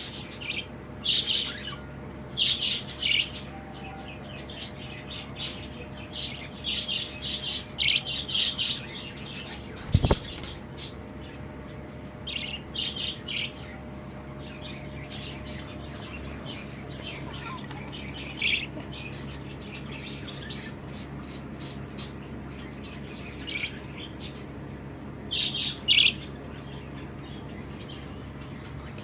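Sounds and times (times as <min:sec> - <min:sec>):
budgerigars chirping: 0:00.0 - 0:11.0, 0:14.4 - 0:24.5, 0:25.3 - 0:28.7
steady low hum: 0:00.0 - 0:29.0.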